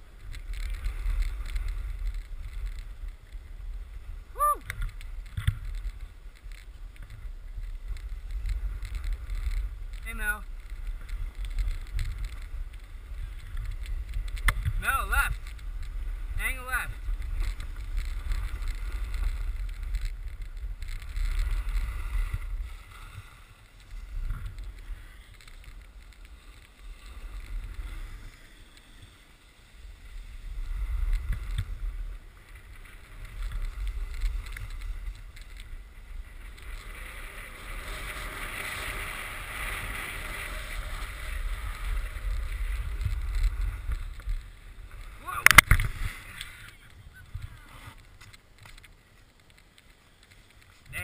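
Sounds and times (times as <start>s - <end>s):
wind buffeting microphone: 0.0s - 26.4s, 29.7s - 48.3s
snowboard scraping on snow: 5.0s - 48.2s.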